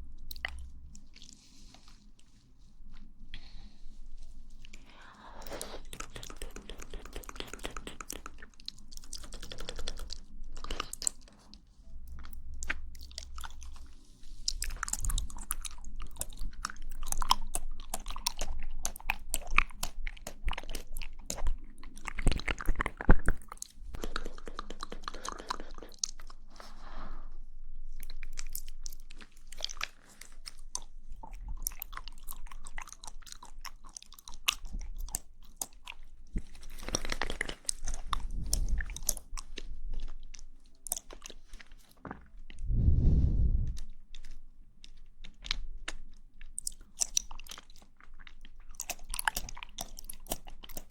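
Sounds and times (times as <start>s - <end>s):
wet chewing and lip smacking: 0.1s - 26.8s, 27.9s - 42.7s, 43.8s - 50.9s.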